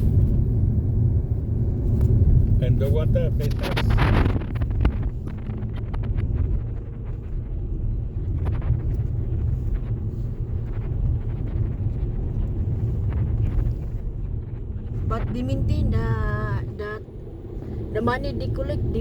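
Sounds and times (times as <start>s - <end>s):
car road noise from inside: 0.0s - 19.0s.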